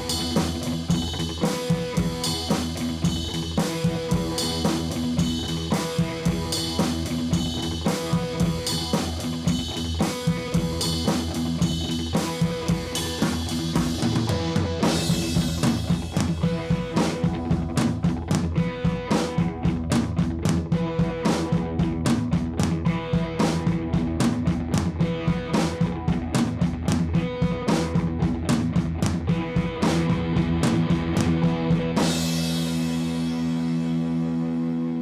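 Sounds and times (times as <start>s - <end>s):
rock music with drums and guitar: 0.0s - 35.0s.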